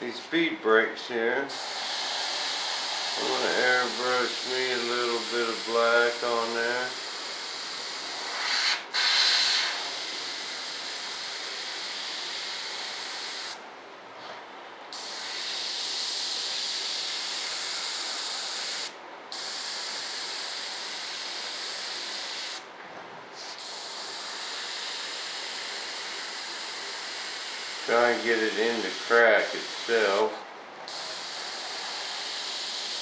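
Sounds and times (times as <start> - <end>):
airbrush spraying hiss: 1.5 - 13.6, 14.9 - 22.6, 23.4 - 30.3, 30.9 - 33.0.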